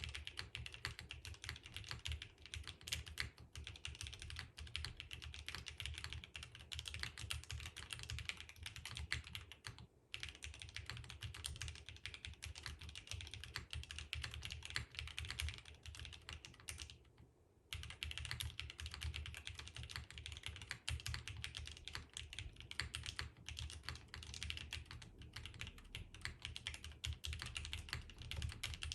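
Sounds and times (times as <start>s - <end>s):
fast typing on mechanical keyboard: 0.0s - 28.9s.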